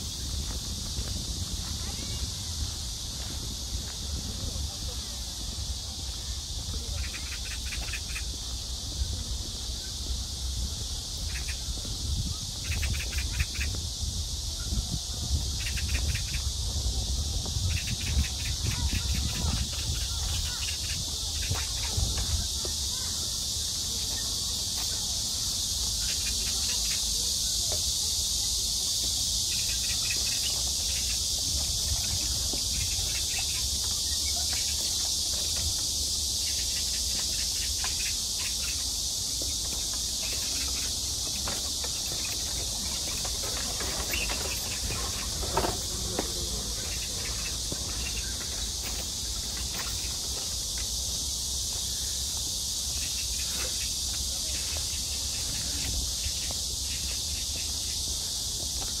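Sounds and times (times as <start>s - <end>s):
insects high-pitched hiss: 0.0s - 59.0s.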